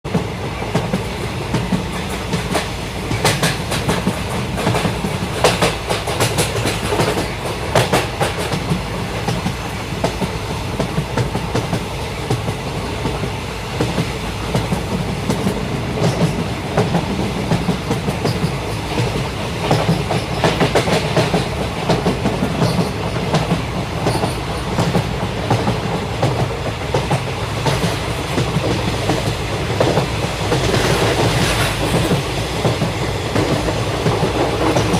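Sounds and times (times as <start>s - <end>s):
train rumble and hiss: 0.0s - 34.9s
wheels clacking over rail joints: 0.1s - 34.9s.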